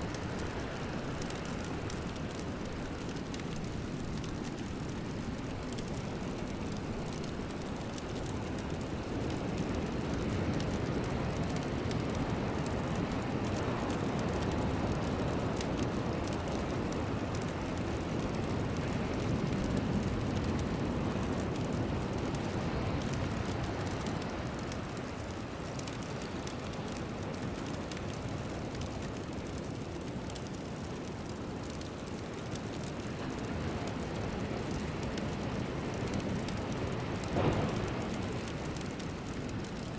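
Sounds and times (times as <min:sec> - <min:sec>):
steady rain-like rushing noise: 0:00.0 - 0:39.9.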